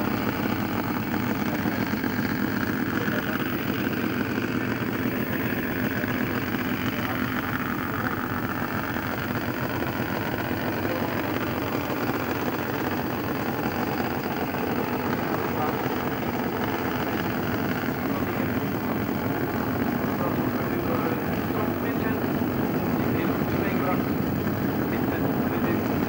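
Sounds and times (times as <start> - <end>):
motorcycle engines idling: 0.0 - 26.0.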